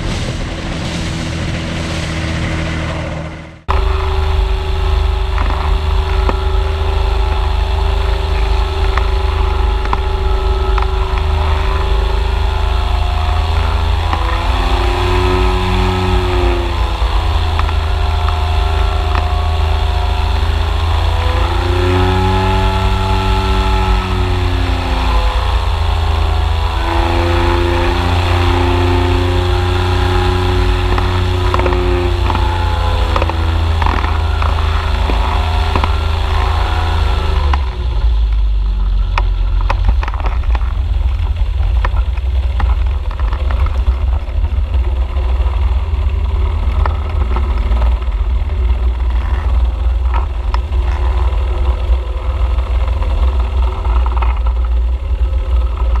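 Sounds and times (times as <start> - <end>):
boat engine running: 0.0 - 56.0
scattered clicks: 3.7 - 56.0.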